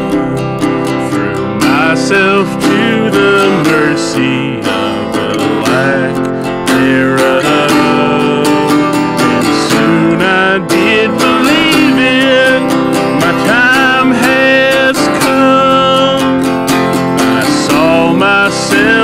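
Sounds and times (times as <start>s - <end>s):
acoustic guitar strumming: 0.0s - 19.0s
harmonica melody: 0.0s - 19.0s.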